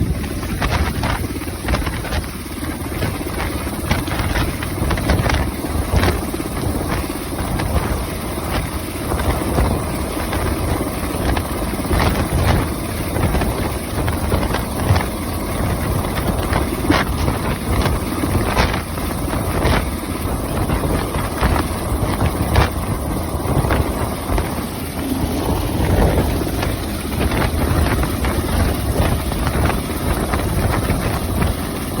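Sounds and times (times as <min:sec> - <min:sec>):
helicopter hovering: 0:00.0 - 0:32.0
rotor downwash buffeting microphone: 0:00.0 - 0:32.0.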